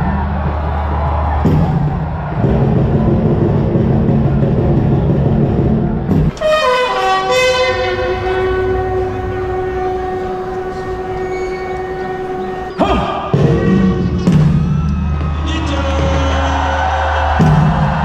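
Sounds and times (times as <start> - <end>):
loud crowd din: 0.0 - 18.0.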